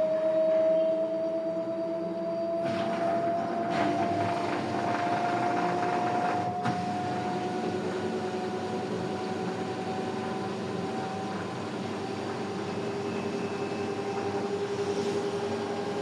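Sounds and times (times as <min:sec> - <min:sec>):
washing machine spinning: 0:02.5 - 0:16.0.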